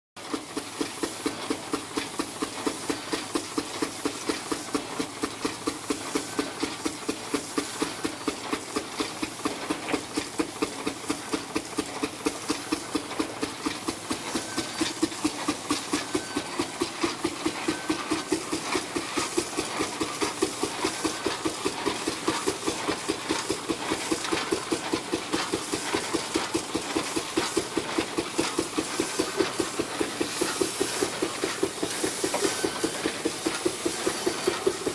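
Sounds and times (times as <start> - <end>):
mechanical clatter: 0.2 - 34.9
steam engine exhaust beating: 0.2 - 34.9.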